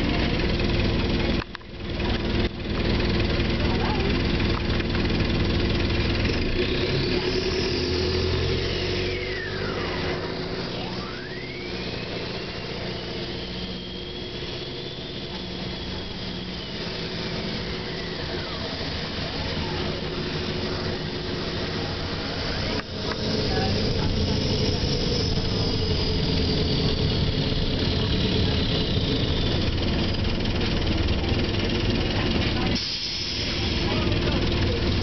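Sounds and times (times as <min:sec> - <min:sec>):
bus engine running: 0:00.0 - 0:35.0
high whine: 0:00.0 - 0:35.0.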